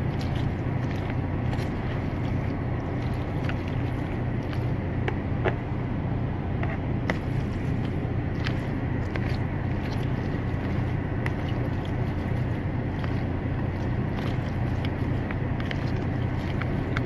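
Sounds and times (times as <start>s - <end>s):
spoon scraping plastic bowl: 0.0s - 4.7s, 6.6s - 17.0s
air conditioning hum: 0.0s - 17.0s.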